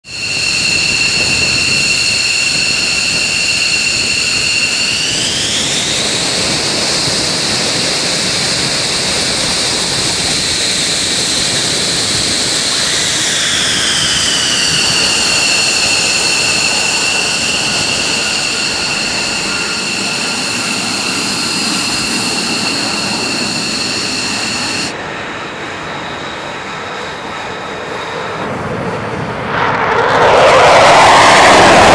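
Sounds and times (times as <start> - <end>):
jet engine whining: 0.0 - 31.9.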